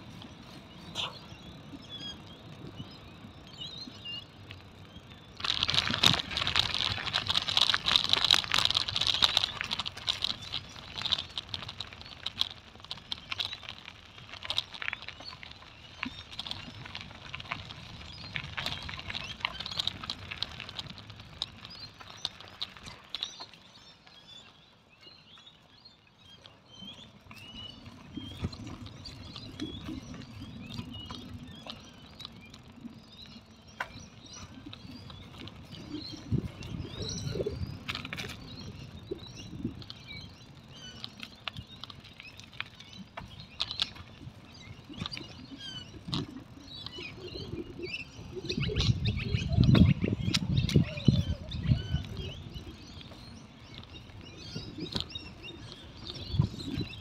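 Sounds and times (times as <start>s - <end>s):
wind rumble on microphone: 0.0s - 24.4s, 26.7s - 57.0s
small birds chirping: 0.0s - 57.0s.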